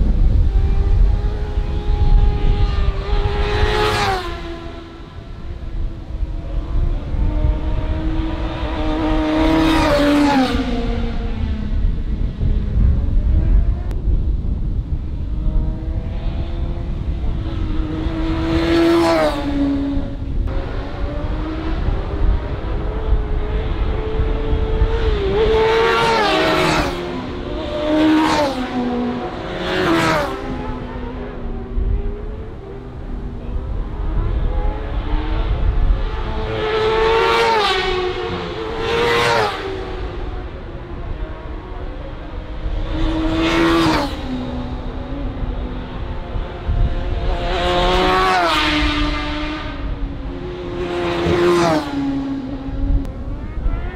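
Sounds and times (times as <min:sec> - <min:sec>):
motorcycle engine at full throttle: 0:00.0 - 0:09.6, 0:10.6 - 0:53.9.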